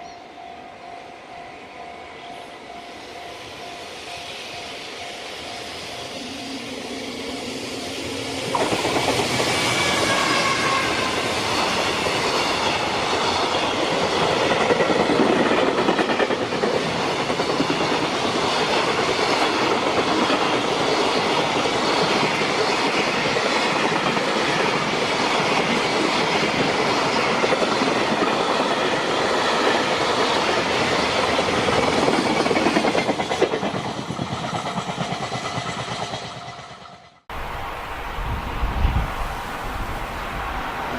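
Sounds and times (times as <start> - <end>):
freight train wheels clattering: 3.9 - 37.3.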